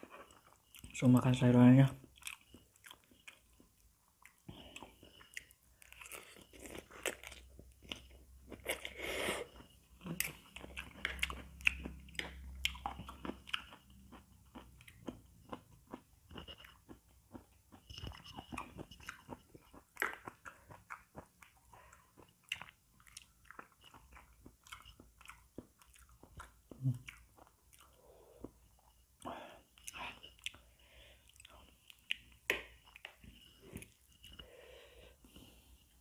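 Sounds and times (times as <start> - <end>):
chewing and crunching noodles: 0.0 - 36.0.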